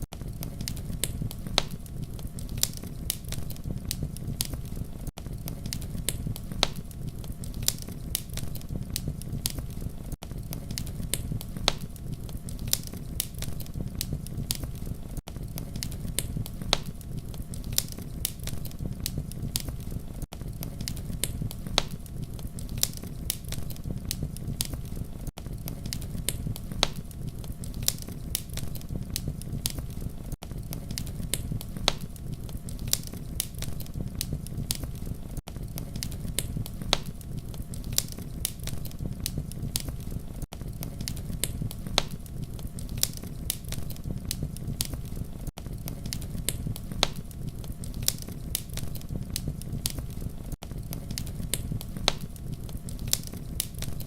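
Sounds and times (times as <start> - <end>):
campfire crackling and popping: 0.0 - 54.0
low rumble of burning wood: 0.0 - 54.0.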